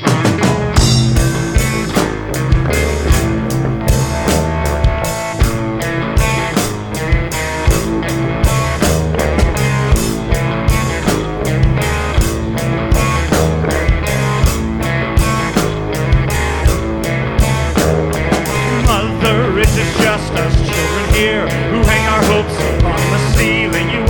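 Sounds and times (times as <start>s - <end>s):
rock band playing: 0.0s - 24.0s
wavering lead guitar line: 0.0s - 24.0s.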